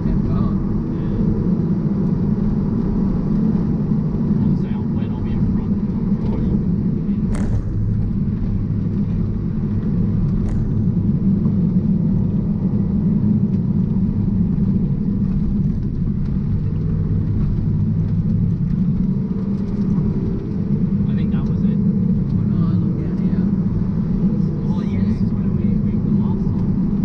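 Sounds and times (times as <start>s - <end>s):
car engine running under load: 0.0s - 27.0s
road noise: 0.0s - 27.0s.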